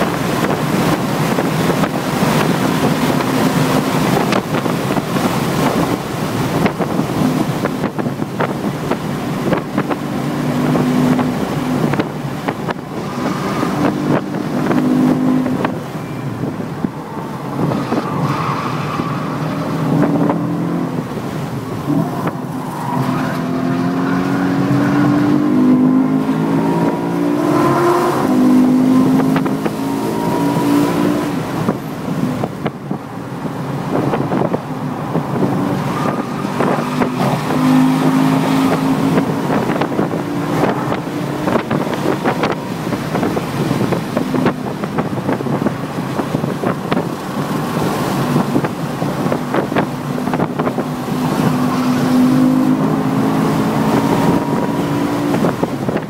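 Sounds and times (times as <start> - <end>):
car engine running hard: 0.0 - 56.0
wind noise: 0.0 - 56.0.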